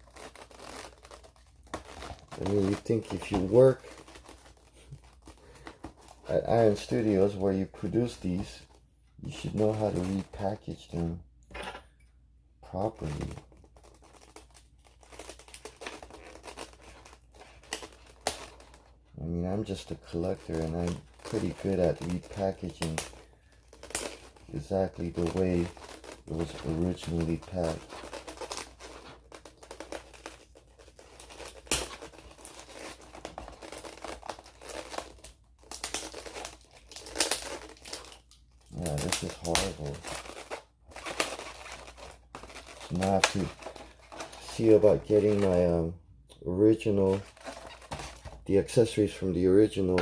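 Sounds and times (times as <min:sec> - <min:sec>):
plastic wrap and tape crinkling: 0:00.0 - 0:11.2, 0:12.7 - 0:50.0.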